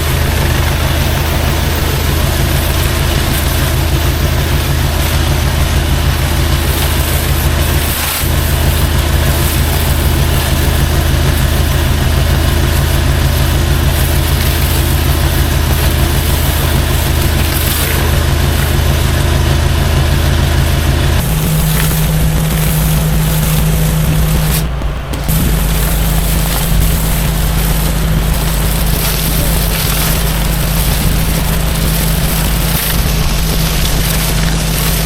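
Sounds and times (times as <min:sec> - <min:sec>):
pressure washer engine running: 0:00.0 - 0:35.0
pressure washer spray hiss: 0:00.0 - 0:35.0.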